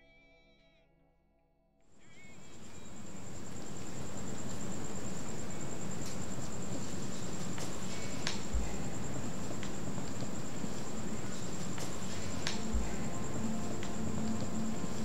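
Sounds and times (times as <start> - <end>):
crickets chirping: 2.0 - 15.0
low background hum: 2.0 - 15.0.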